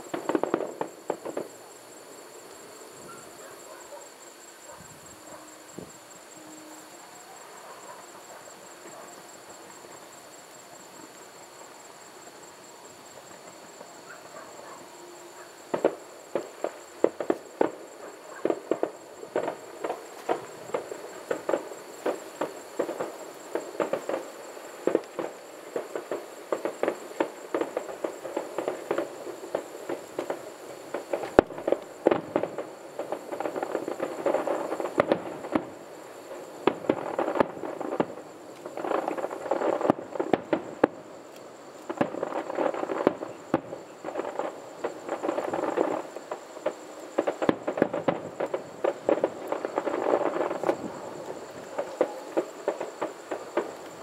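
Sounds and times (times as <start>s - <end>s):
fireworks popping and crackling: 0.0s - 4.0s, 7.9s - 54.0s.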